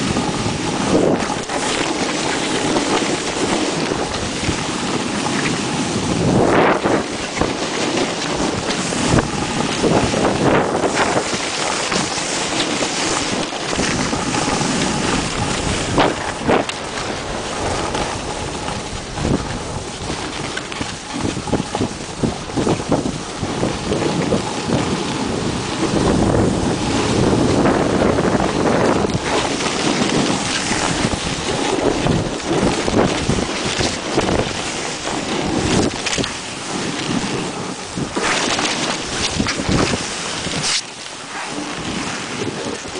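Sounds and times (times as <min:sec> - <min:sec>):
snowboard edges scraping snow: 0:00.0 - 0:42.9
wind rushing over microphone: 0:00.0 - 0:42.9.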